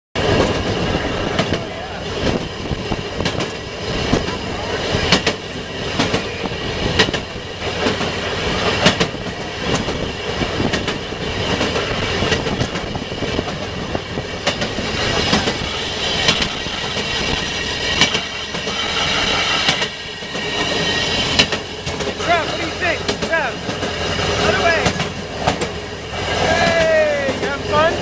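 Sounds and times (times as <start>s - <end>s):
rolling rumble of rail car: 0.2s - 28.0s
wheels clacking over rail joints: 0.2s - 28.0s.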